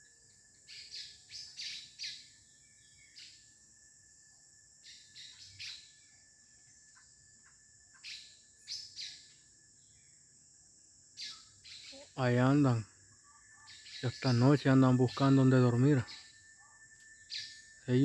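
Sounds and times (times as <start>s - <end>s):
small birds chirping: 0.0s - 3.7s, 4.8s - 18.0s
high insect drone: 0.0s - 18.0s.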